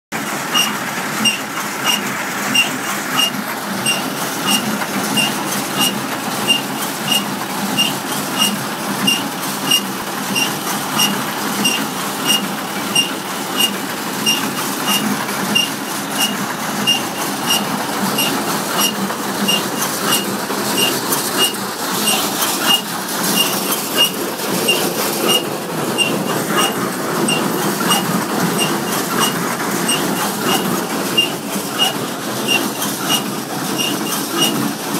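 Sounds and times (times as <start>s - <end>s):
hay baler plunger clacking: 0.2s - 34.9s.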